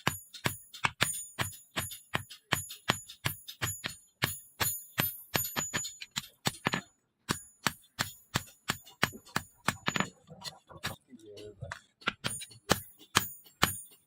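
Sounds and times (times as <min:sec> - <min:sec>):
hammer striking steel on anvil: 0:00.0 - 0:14.0.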